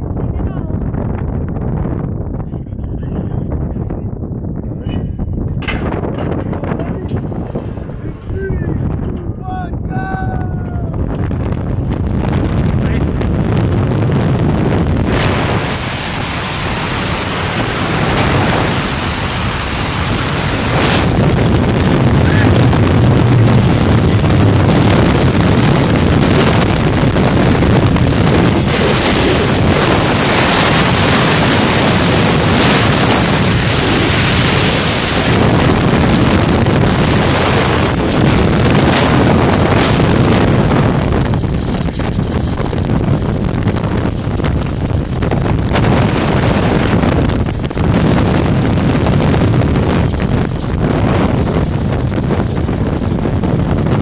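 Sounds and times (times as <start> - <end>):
strong wind buffeting microphone: 0.0 - 54.0.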